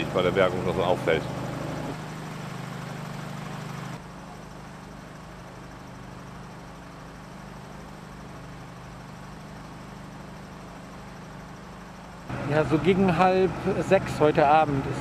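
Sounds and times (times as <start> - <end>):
engine humming at idle: 0.0 - 15.0.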